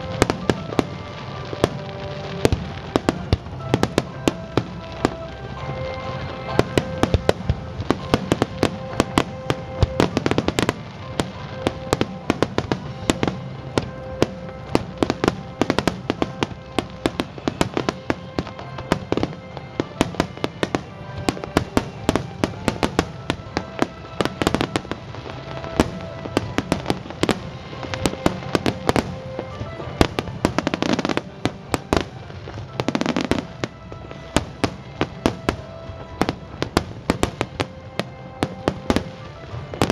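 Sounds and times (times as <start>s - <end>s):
fireworks bangs and crackles: 0.0s - 39.9s
music with held notes: 0.0s - 39.9s.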